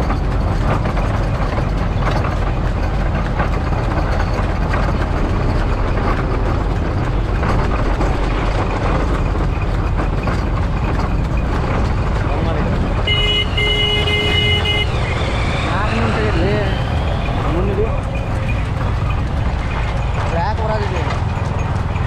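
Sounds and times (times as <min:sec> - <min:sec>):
motorcycle engines running: 0:00.0 - 0:22.0
road noise: 0:00.0 - 0:22.0.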